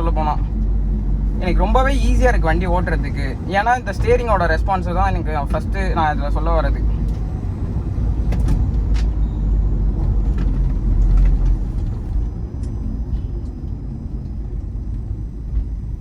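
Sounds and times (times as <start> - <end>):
diesel engine and road rumble: 0.0 - 16.0.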